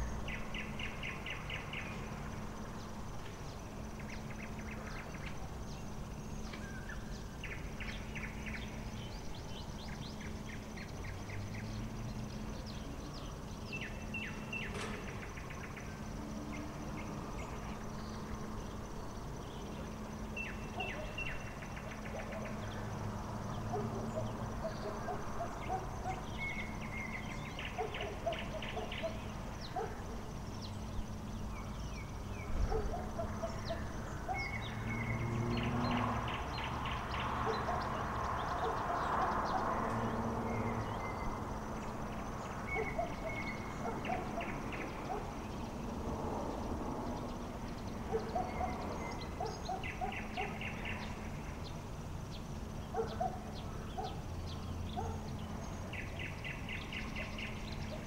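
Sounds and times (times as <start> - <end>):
bird singing: 0.0 - 58.0.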